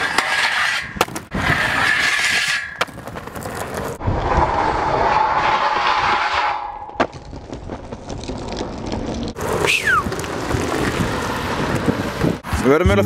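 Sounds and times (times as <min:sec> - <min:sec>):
skateboard grinding metal handrail: 0:00.0 - 0:12.4
wheels rolling on pavement: 0:00.0 - 0:12.8.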